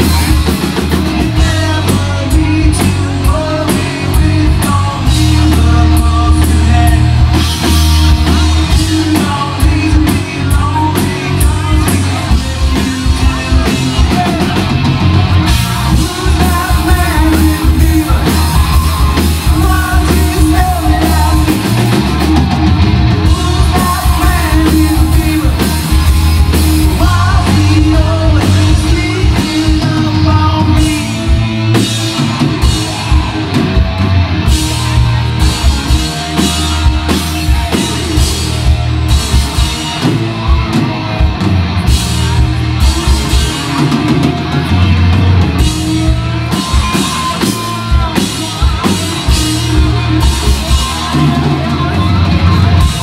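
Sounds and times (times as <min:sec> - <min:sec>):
bass guitar: 0:00.0 - 0:53.0
distorted electric guitars: 0:00.0 - 0:53.0
drum kit: 0:00.0 - 0:53.0.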